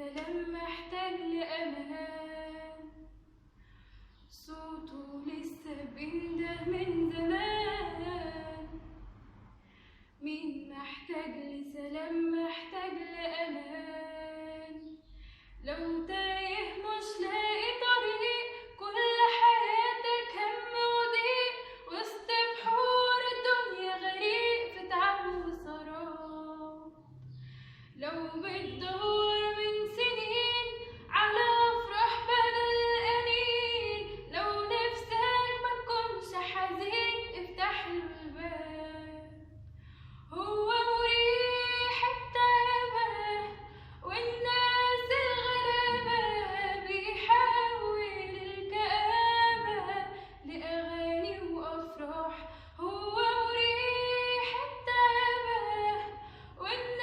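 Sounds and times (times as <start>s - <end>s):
woman singing a hymn: 0.0s - 3.1s, 4.3s - 8.8s, 10.2s - 15.0s, 15.6s - 27.0s, 28.0s - 39.3s, 40.3s - 57.0s.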